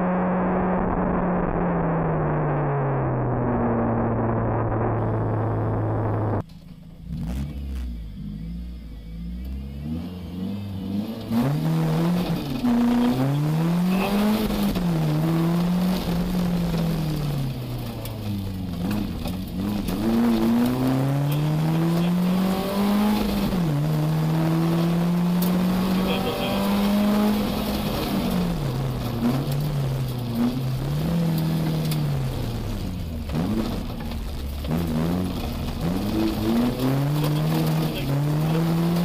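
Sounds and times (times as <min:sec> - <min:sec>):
rally car engine accelerating: 0:00.0 - 0:39.0.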